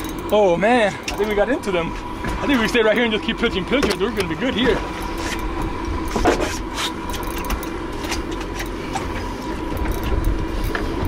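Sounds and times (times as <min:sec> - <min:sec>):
outboard engines idling: 0:00.0 - 0:11.0.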